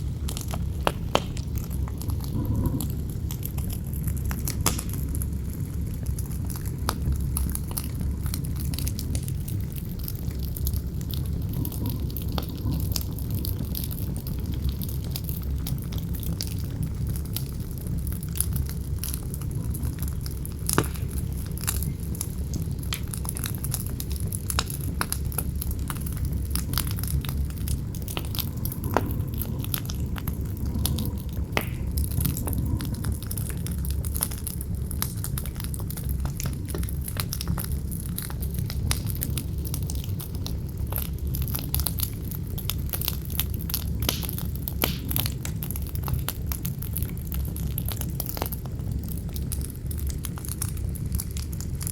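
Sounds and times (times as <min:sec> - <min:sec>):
low wind rumble: 0:00.0 - 0:51.8
campfire crackling and popping: 0:00.0 - 0:51.9.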